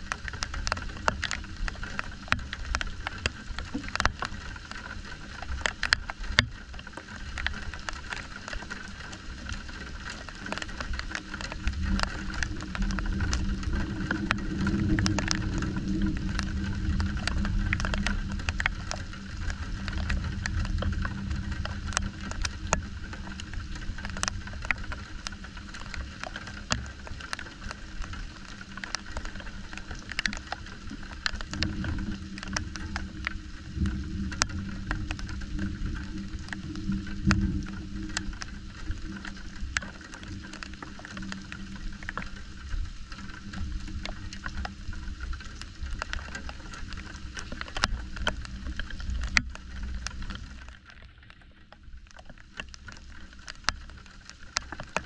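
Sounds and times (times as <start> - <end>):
rain drips clicking: 0.0 - 55.0.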